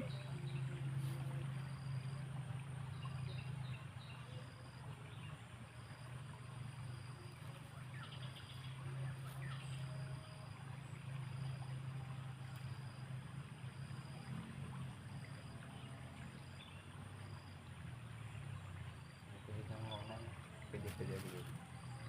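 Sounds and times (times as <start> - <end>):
birds chirping: 0.0 - 22.0
low engine hum: 0.0 - 22.0.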